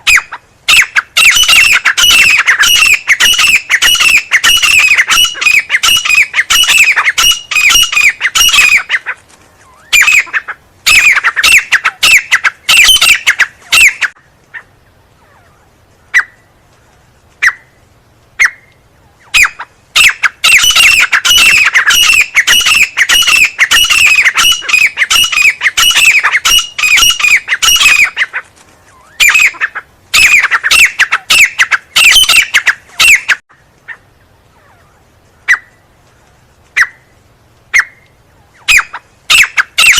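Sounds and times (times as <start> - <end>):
francolin calling: 0.0 - 16.6, 18.4 - 35.9, 36.7 - 39.9.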